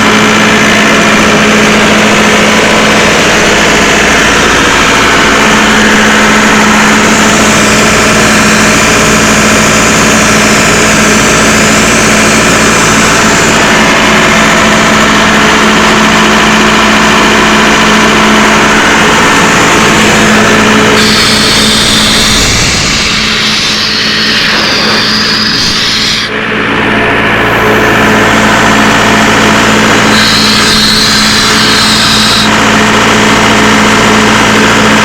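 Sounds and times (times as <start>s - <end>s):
air compressor diesel engine running: 0.0s - 35.0s.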